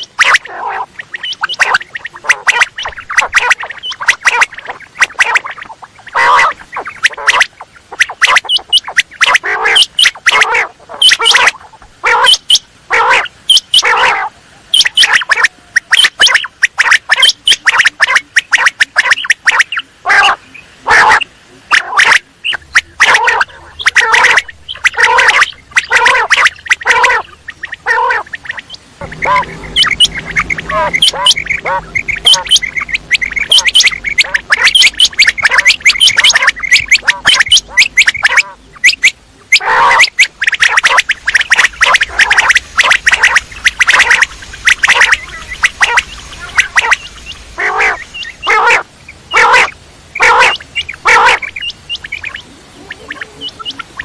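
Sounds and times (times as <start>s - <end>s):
quail calling: 0.0s - 54.0s.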